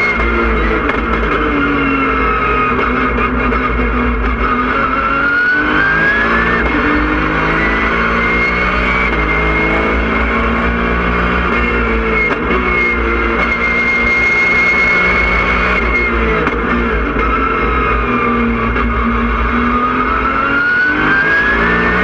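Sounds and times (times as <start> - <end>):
race car engine from inside cabin: 0.0 - 22.0.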